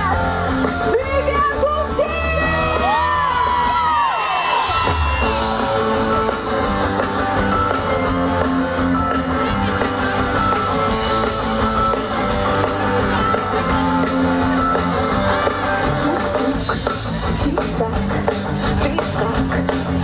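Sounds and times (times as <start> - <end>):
bass guitar: 0.0 - 20.0
drums with cymbal beat: 0.0 - 20.0
electric guitar: 0.0 - 20.0.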